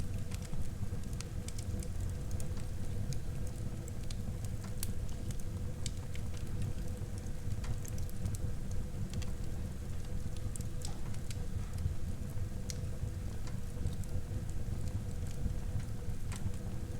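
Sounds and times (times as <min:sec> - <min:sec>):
wood fire crackling in fireplace: 0:00.0 - 0:16.9.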